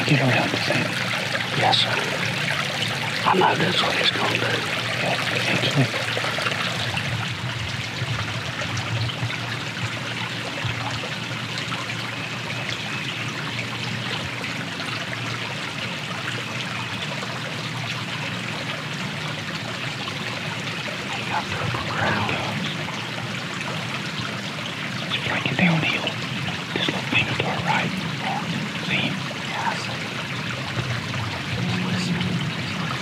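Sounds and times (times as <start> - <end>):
creek water flowing: 0.0 - 33.0.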